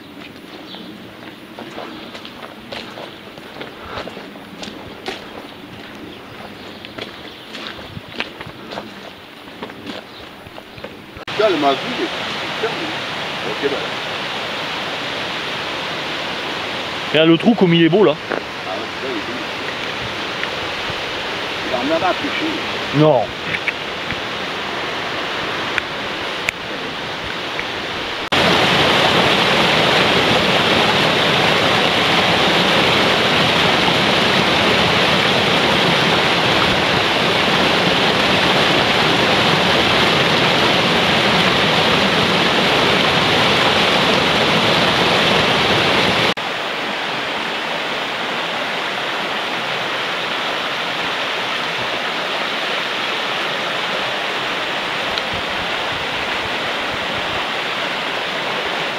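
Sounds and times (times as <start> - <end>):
fast river rushing: 0.0 - 58.9.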